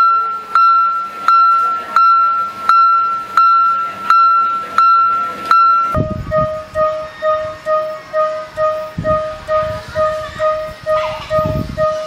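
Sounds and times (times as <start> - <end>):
high crossing bell ringing: 0.0 - 12.0
lower fast crossing alarm ding: 0.0 - 12.0.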